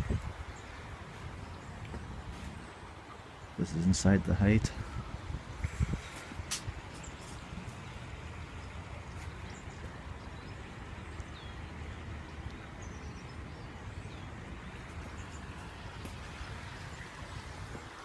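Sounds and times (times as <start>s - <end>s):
small birds chirping: 0.1s - 17.4s.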